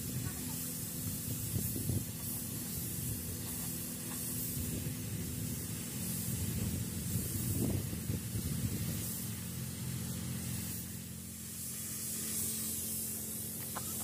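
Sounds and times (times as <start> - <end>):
paint spray gun hissing: 0.0 - 14.0
steady low hum: 0.0 - 14.0.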